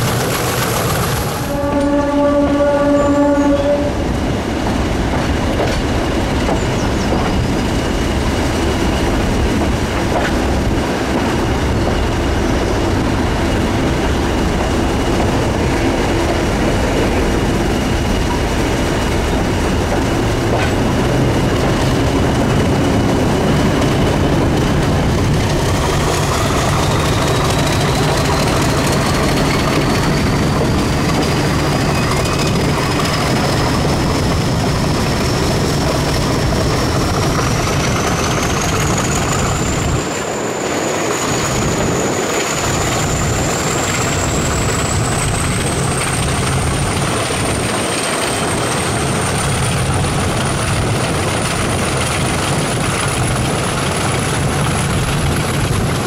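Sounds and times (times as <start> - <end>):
diesel locomotive engine running: 0.0 - 56.0
wheels clacking over rail joints: 4.6 - 40.3, 41.0 - 56.0.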